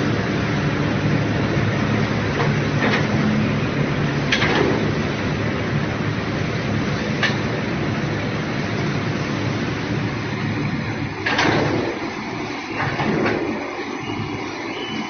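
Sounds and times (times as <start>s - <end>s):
industrial machinery running: 0.0s - 15.0s.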